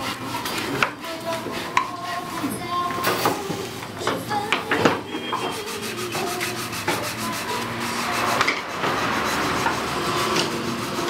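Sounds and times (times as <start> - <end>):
hand tool rubbing wood: 0.0 - 11.0.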